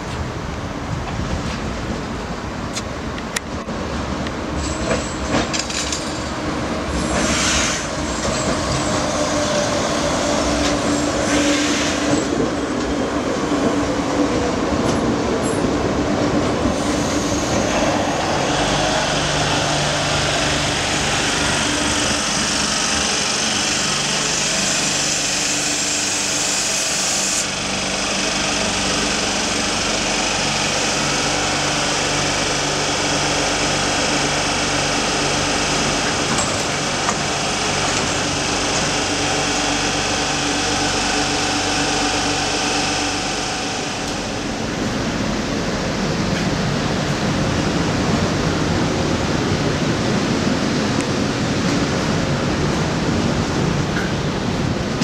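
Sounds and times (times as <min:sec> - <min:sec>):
wheel-on-rail noise: 0:03.2 - 0:55.0.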